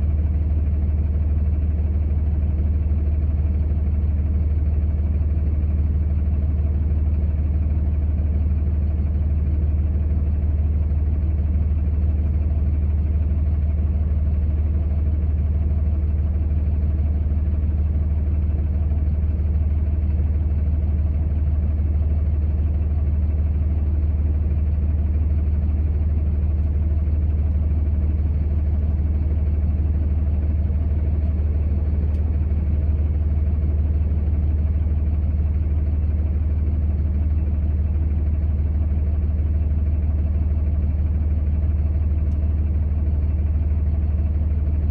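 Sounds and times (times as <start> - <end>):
vehicle engine drone inside cab: 0.0 - 44.9.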